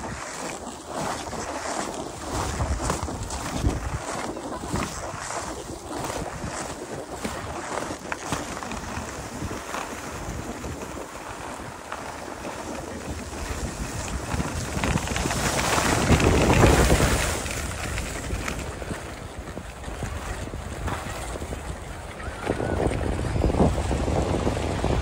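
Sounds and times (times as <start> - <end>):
skis scraping on snow: 0.0 - 25.0
wind rushing over microphone: 0.0 - 25.0.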